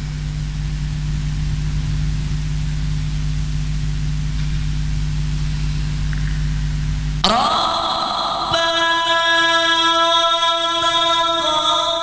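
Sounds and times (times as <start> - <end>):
low electrical hum: 0.0 - 12.0
sound system hiss: 0.0 - 12.0.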